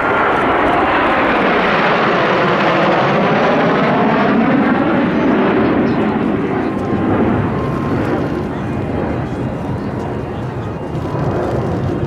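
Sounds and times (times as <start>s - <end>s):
jet flying past: 0.0s - 12.0s.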